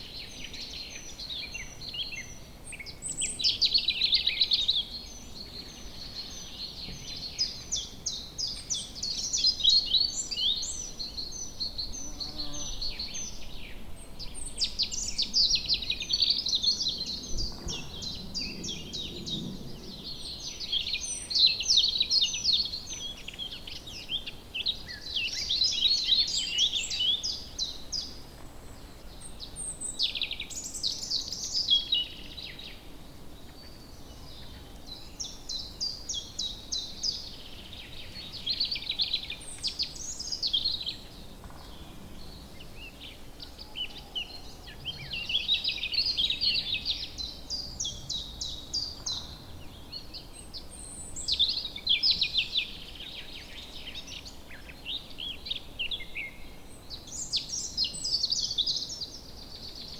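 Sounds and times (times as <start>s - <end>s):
faint background hiss: 0.0s - 59.9s
songbirds chirping and trilling: 0.0s - 59.9s.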